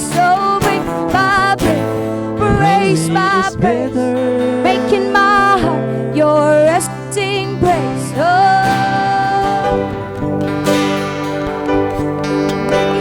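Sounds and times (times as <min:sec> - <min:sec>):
person singing with vibrato: 0:00.0 - 0:10.7
guitar accompaniment: 0:00.0 - 0:13.0.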